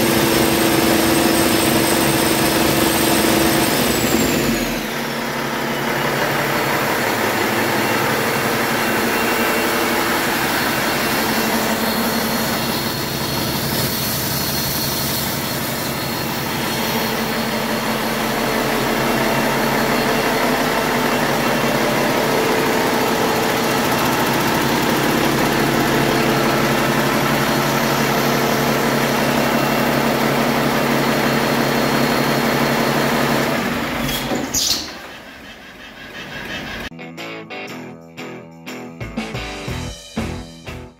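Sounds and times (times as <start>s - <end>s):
diesel engine running steadily: 0.0s - 36.9s.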